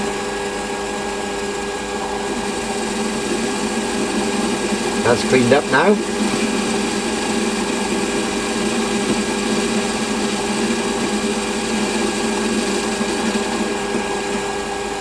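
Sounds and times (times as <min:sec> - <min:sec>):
lathe motor hum: 0:00.0 - 0:15.0.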